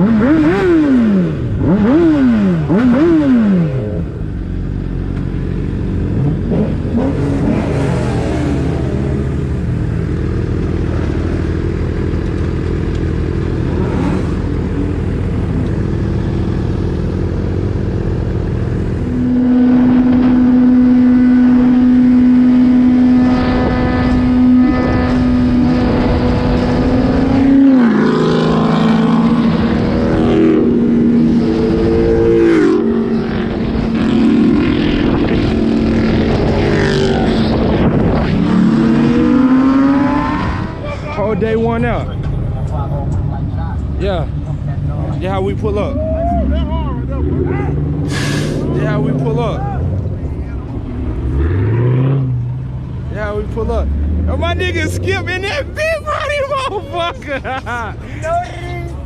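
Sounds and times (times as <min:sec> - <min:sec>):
vehicle engines revving: 0:00.0 - 0:59.0.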